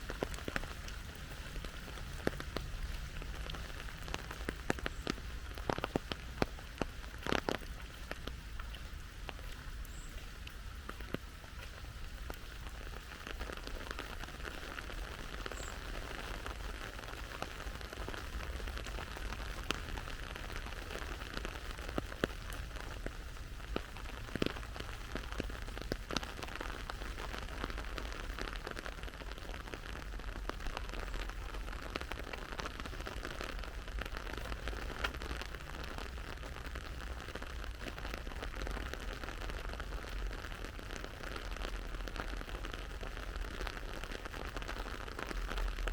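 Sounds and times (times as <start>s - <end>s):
sharp clicks of raindrops: 0.0s - 45.9s
steady rain hiss: 0.0s - 45.9s.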